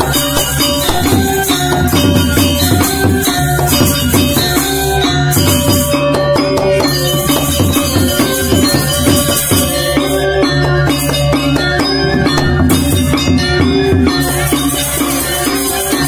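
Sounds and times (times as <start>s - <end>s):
low drum and gong tones: 0.0s - 14.9s
high metallic jangle: 0.0s - 16.0s
metallophones ringing: 0.0s - 16.0s.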